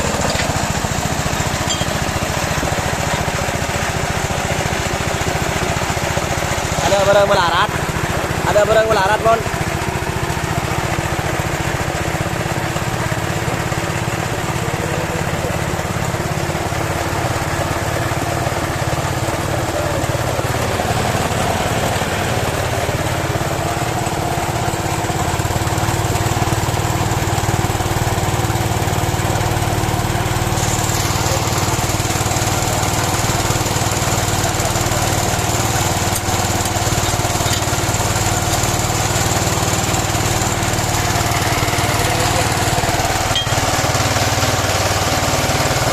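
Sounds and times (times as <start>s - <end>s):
small pump engine running: 0.0s - 45.9s.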